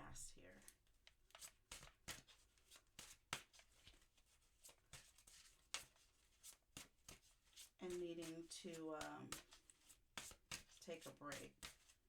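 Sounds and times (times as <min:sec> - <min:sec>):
cards being shuffled: 0:01.3 - 0:08.3, 0:09.3 - 0:12.0.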